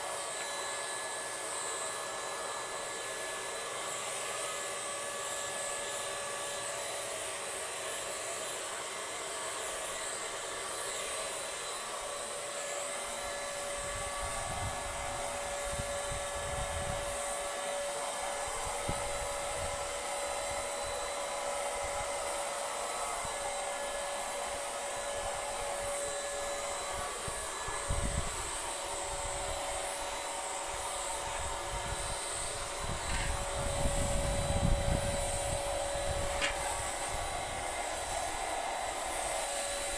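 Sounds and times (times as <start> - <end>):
electric paint sprayer whining: 0.0 - 39.9.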